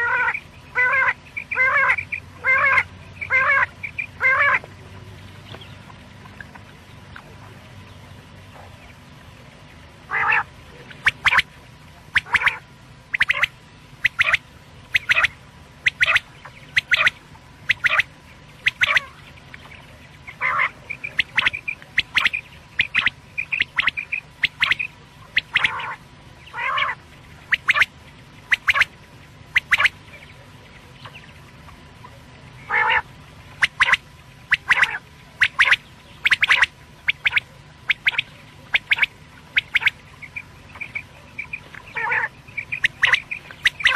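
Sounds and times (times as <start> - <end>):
quail calling: 0.0 - 4.7, 10.1 - 11.5, 12.1 - 31.3, 32.6 - 43.9.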